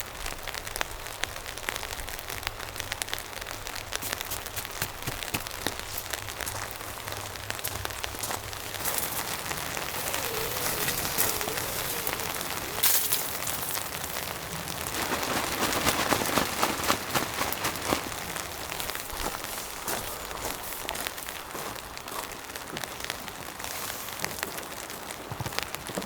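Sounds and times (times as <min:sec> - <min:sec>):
rain drops ticking: 0:00.0 - 0:26.0.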